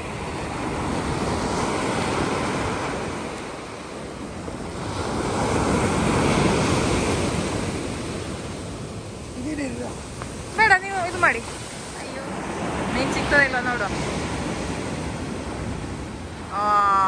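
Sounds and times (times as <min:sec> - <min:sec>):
wind buffeting microphone: 0:00.0 - 0:16.9
sea waves washing on shore: 0:00.0 - 0:17.0.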